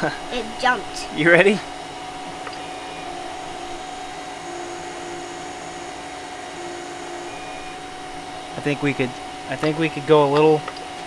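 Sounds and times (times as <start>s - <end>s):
cooling fan whooshing: 0.0s - 11.0s
stepper motors whining: 0.0s - 11.0s.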